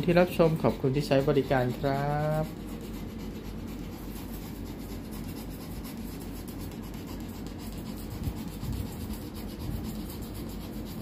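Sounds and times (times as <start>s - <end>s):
dog panting hard: 0.0s - 11.0s.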